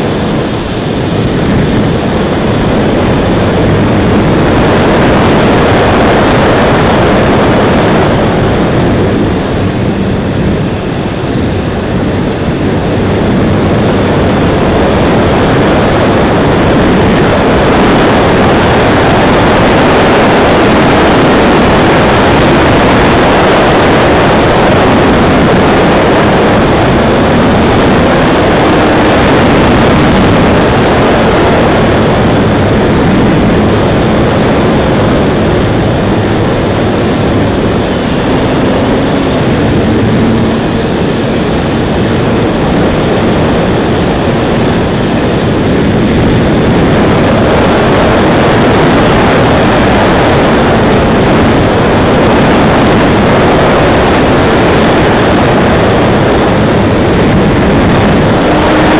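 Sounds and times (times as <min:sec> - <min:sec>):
wind rushing: 0:00.0 - 0:58.9.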